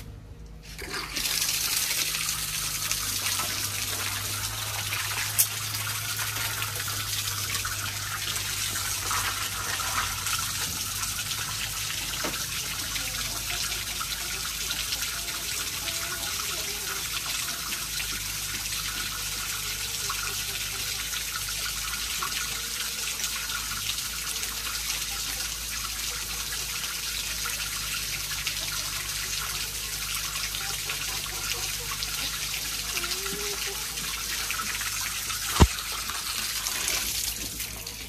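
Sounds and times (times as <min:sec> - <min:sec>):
water gushing: 0:00.6 - 0:38.0.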